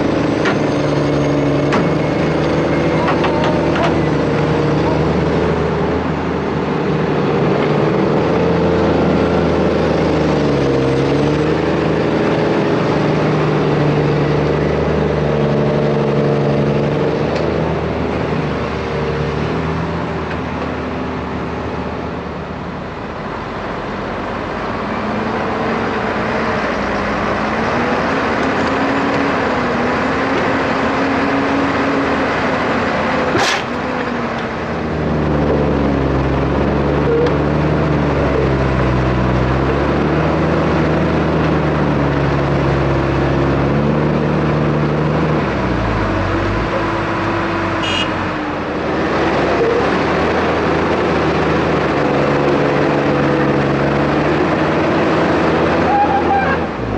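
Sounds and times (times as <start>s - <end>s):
heavy diesel engines straining: 0.0s - 56.9s.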